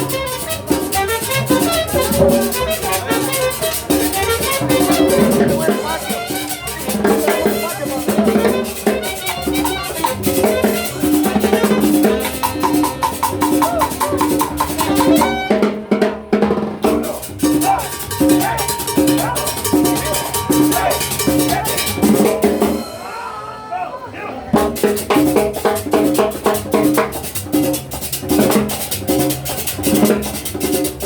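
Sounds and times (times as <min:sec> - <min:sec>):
busy drum and percussion beat: 0:00.0 - 0:23.6, 0:24.5 - 0:31.0
instrumental music: 0:00.0 - 0:23.6, 0:24.6 - 0:31.0.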